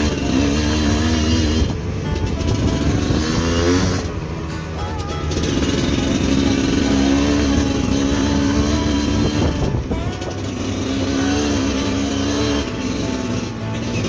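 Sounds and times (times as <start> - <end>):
motorcycle engine under throttle: 0.0 - 14.0.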